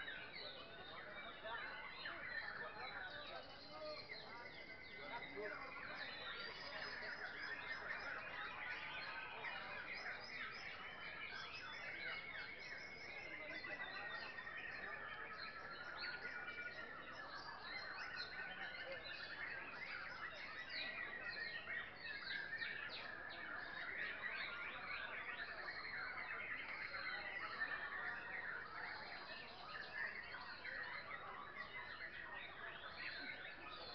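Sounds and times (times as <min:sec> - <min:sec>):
birds singing chirps and trills: 0:00.0 - 0:33.9.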